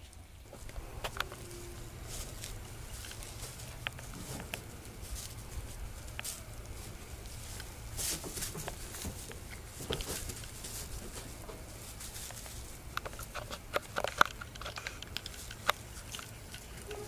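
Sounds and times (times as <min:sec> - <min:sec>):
kittens scampering on wood shavings: 0:00.0 - 0:17.0.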